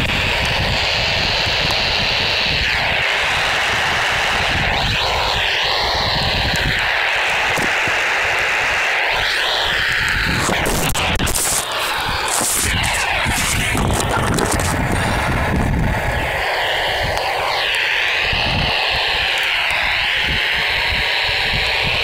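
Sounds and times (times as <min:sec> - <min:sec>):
radio receiver hiss: 0:00.0 - 0:22.0
wind rumble on microphone: 0:00.0 - 0:22.0.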